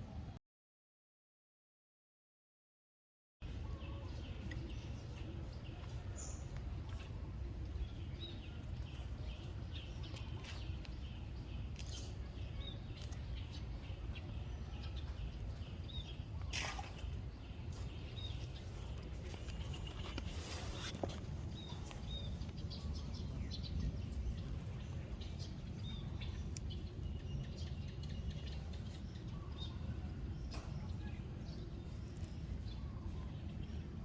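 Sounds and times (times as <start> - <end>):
small birds chirping: 3.4 - 34.0
steady low rumble: 3.4 - 34.0.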